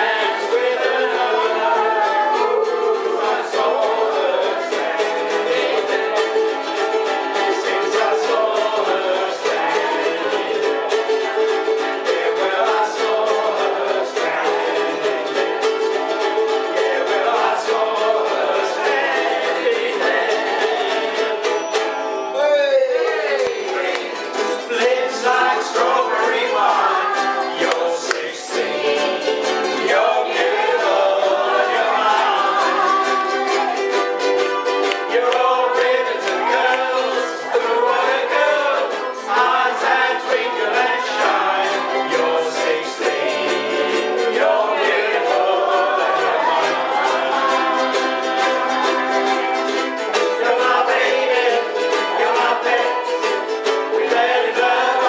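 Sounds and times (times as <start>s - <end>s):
group of voices singing: 0.0s - 55.0s
ukuleles strumming: 0.0s - 55.0s.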